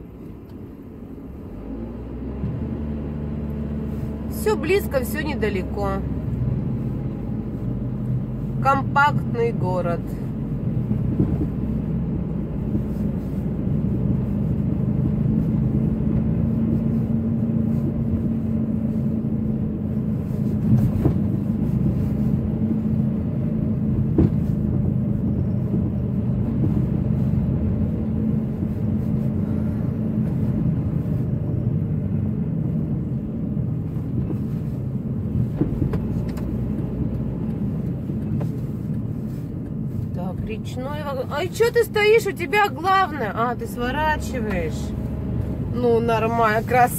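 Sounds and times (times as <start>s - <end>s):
car road noise drone: 0.0s - 46.9s
engine hum: 0.0s - 46.9s.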